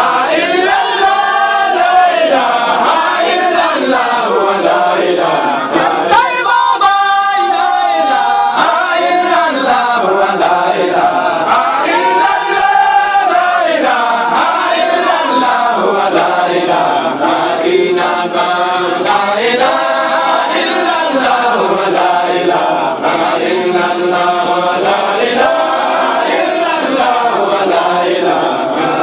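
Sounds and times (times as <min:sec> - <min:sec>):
men chanting together: 0:00.0 - 0:29.0.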